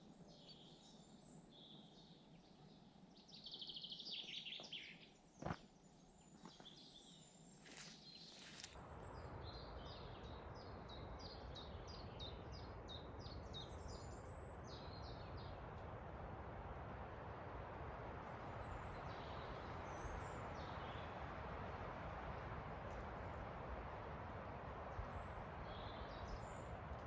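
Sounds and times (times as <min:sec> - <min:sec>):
wind through forest: 0:00.0 - 0:27.0.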